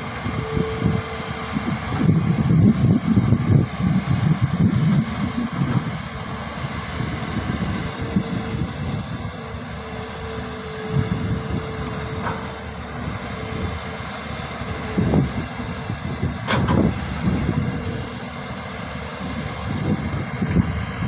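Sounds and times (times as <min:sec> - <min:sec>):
excavator diesel engine rumbling: 0:00.0 - 0:21.0
steady whine: 0:00.0 - 0:21.0.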